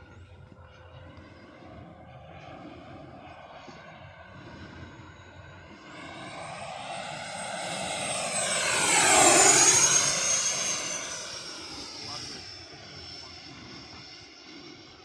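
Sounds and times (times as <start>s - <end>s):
model jet whine flying by: 0.0s - 15.0s.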